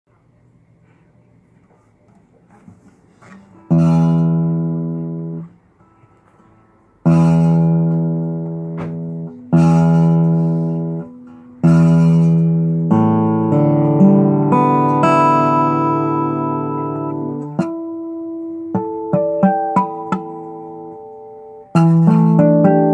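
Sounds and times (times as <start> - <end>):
acoustic guitar string plucked: 2.6 - 22.9
guitar strings picked and ringing: 3.4 - 22.9.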